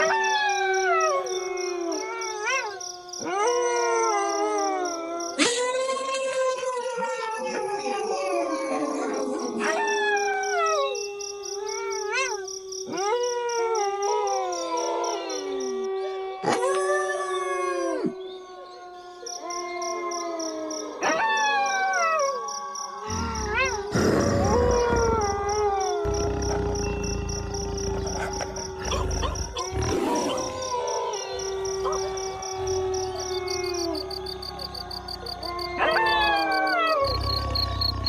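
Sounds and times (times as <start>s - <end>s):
wolves howling in chorus: 0.0s - 38.0s.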